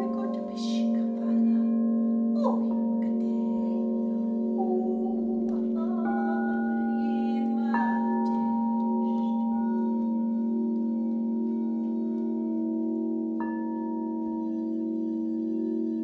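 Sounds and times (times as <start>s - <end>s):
singing bowls ringing: 0.0s - 16.0s.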